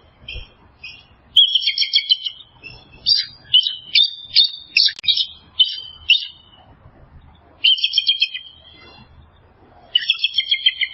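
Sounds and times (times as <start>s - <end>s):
small bird chirping: 0.2s - 10.9s.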